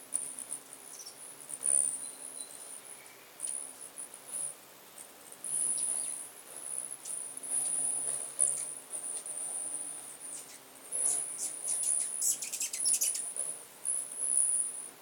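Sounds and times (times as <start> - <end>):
hummingbird wings buzzing: 0.0 - 4.6, 5.4 - 15.0.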